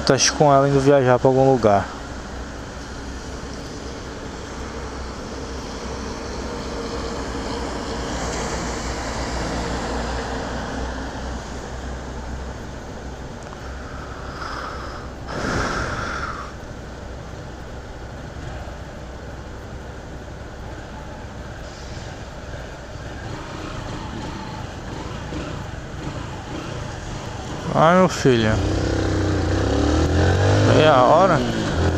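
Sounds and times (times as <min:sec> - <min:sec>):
wet road and wind noise: 0:00.0 - 0:31.9.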